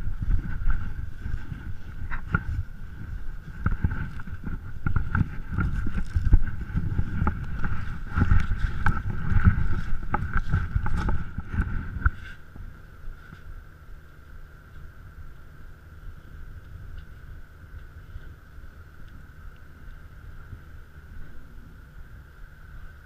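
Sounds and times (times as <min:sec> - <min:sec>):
boat rumble: 0:00.0 - 0:23.0
wind buffeting microphone: 0:00.0 - 0:23.0.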